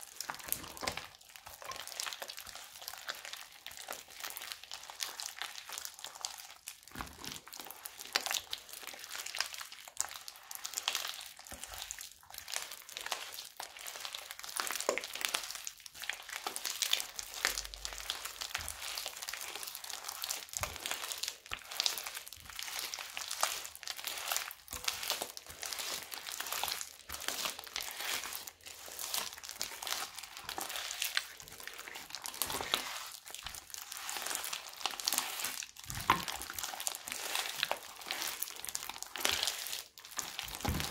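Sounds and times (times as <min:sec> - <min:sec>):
crunchy slime crackling and popping: 0:00.0 - 0:40.9.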